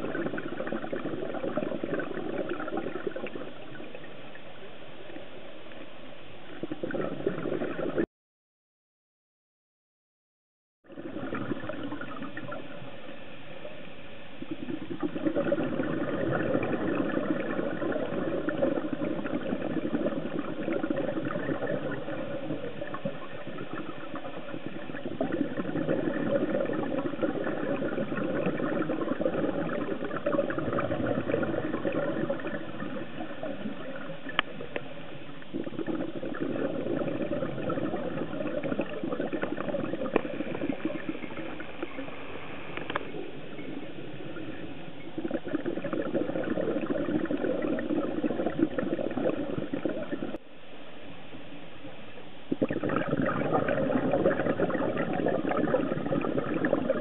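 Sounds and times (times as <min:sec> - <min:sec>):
underwater regulator bubbles: 0:00.0 - 0:05.8, 0:06.5 - 0:08.1, 0:10.8 - 0:13.0, 0:14.4 - 0:50.4, 0:52.5 - 0:57.0.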